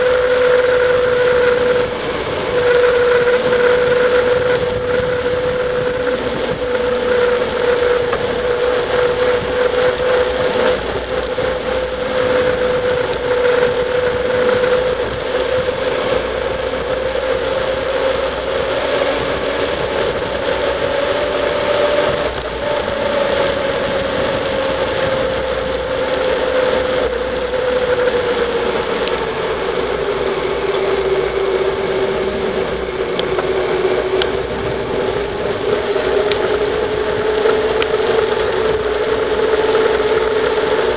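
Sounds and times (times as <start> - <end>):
bike tyres humming on tarmac: 0.0 - 40.9
wind rushing on microphone: 0.0 - 40.9.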